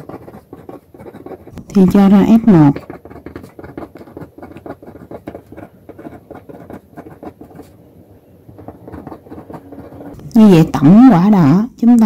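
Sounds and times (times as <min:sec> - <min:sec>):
pen scratching on paper: 0:00.0 - 0:10.9.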